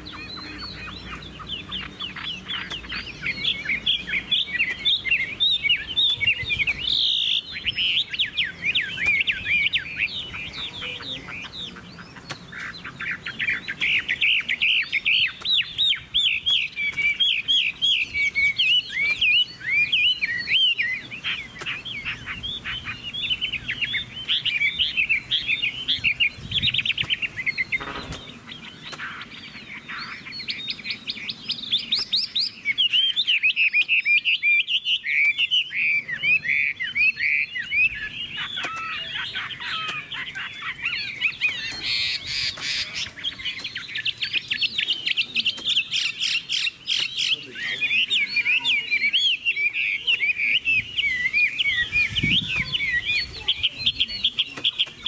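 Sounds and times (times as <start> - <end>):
bird singing whistled notes: 0.0 - 55.0.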